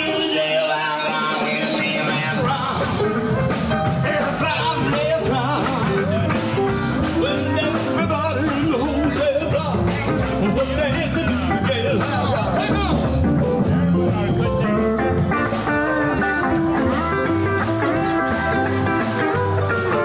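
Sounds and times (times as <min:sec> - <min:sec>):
live dance band with singer: 0:00.0 - 0:20.0
steady drum beat: 0:00.0 - 0:20.0.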